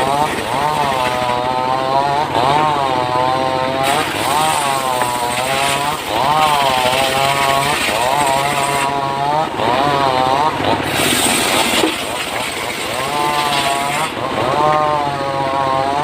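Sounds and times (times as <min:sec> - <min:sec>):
engine-powered wood saw running: 0:00.0 - 0:16.0.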